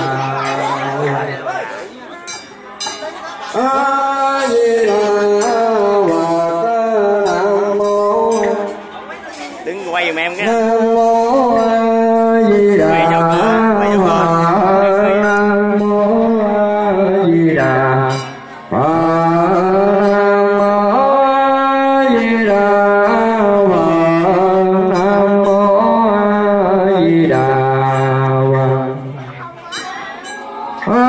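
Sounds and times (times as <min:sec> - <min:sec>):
person chanting: 0:00.0 - 0:01.8, 0:03.5 - 0:08.8, 0:10.0 - 0:30.0, 0:30.8 - 0:31.0.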